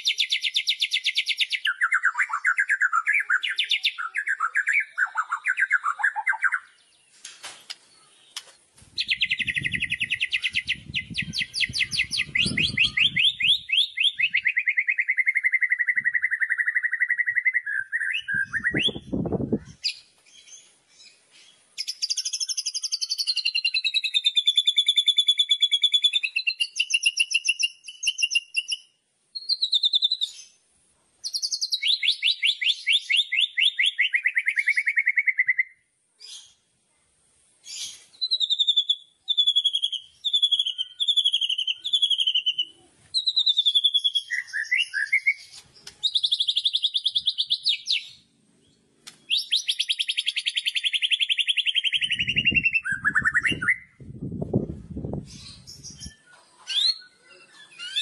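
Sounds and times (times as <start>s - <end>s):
bird singing trills and whistles: 0.0s - 7.1s, 7.7s - 30.6s, 31.2s - 36.6s, 37.7s - 48.2s, 49.2s - 54.2s, 55.2s - 58.0s.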